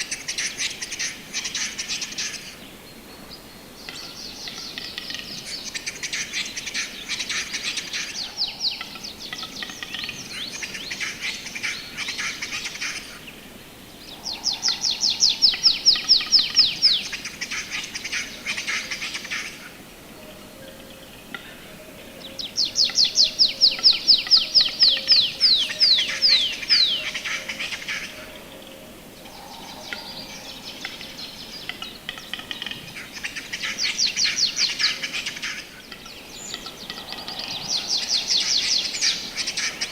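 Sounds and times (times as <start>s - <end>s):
songbird singing trills: 3.3s - 19.6s, 20.2s - 39.9s.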